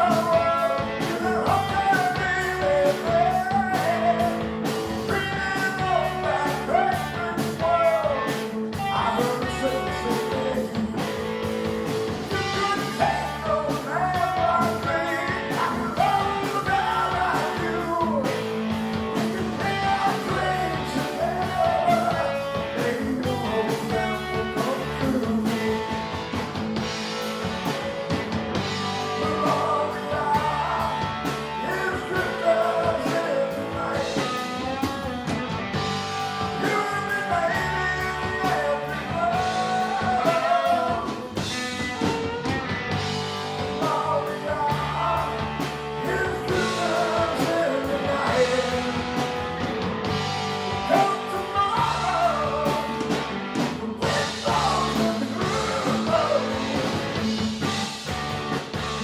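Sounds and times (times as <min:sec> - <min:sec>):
guitar accompaniment: 0:00.0 - 0:59.0
lead vocals: 0:00.0 - 0:59.0.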